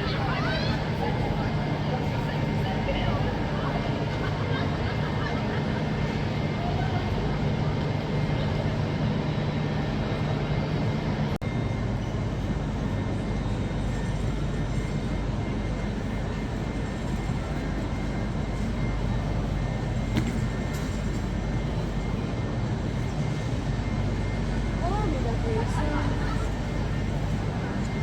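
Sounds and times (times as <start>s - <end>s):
constant hum: 0.0s - 28.0s
rumble of trains and machinery: 0.0s - 28.0s.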